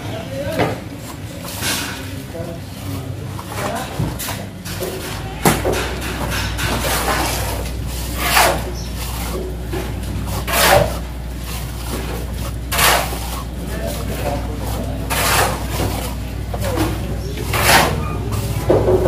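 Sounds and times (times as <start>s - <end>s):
steady low hum: 0.0s - 19.0s
shovel scraping wet cement: 1.0s - 19.0s.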